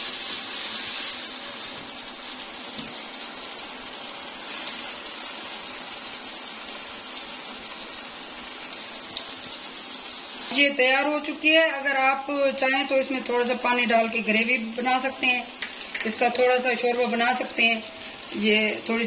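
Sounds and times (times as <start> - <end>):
curry sizzling in a pan: 0.0 - 19.0.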